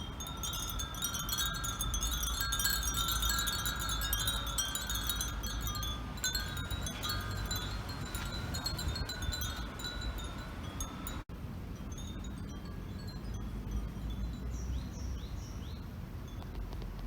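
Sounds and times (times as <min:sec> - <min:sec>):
wind chimes tinkling: 0:00.0 - 0:15.2.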